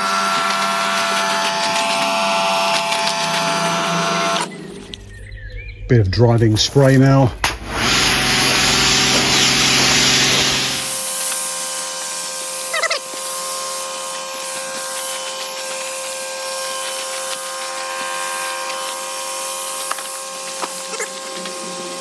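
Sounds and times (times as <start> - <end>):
water spraying on bags: 0.0 - 5.1, 7.4 - 22.0
mechanical hum: 0.0 - 22.0.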